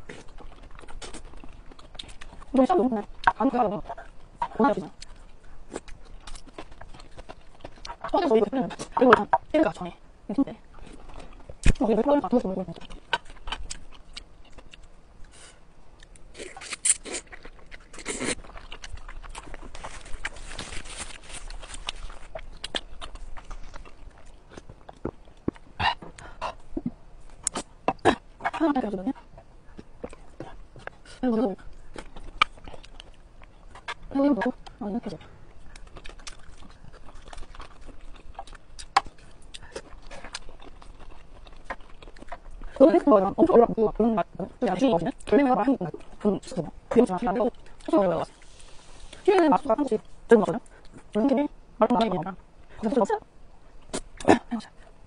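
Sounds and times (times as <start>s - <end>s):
wet chewing and lip-smacking: 0.0s - 55.0s.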